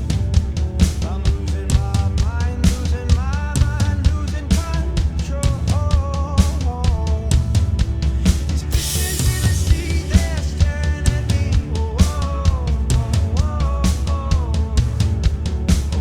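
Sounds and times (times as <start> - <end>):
electronic drum kit beat: 0.0 - 16.0
rock song with singing: 0.0 - 16.0.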